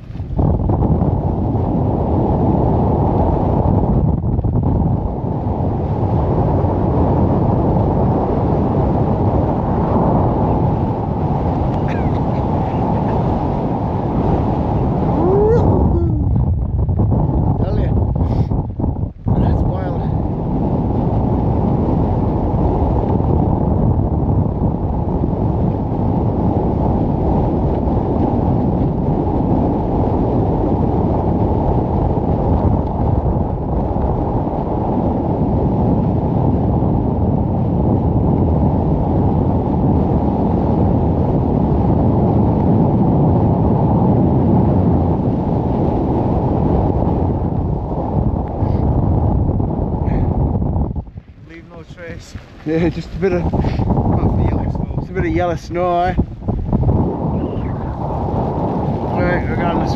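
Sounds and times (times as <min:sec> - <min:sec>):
strong wind roaring on microphone: 0:00.0 - 0:59.9.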